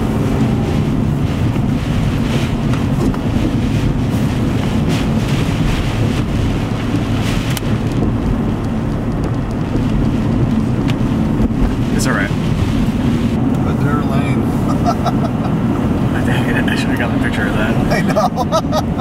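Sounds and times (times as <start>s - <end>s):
storm wind gusting: 0.0s - 19.0s.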